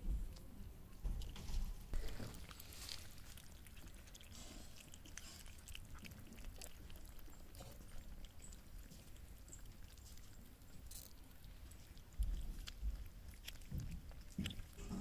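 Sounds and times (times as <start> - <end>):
cats chewing clicks: 2.0 - 15.0.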